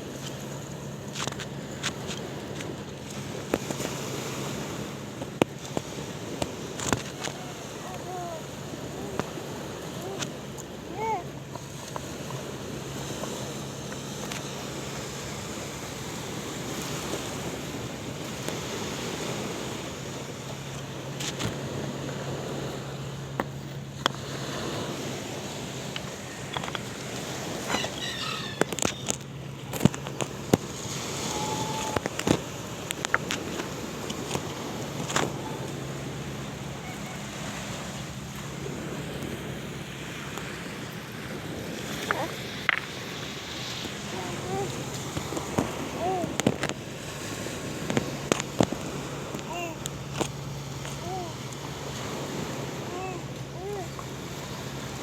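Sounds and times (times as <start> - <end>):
low steady hum: 0.0 - 55.0
sea waves washing: 0.0 - 55.0
wind: 0.0 - 55.0.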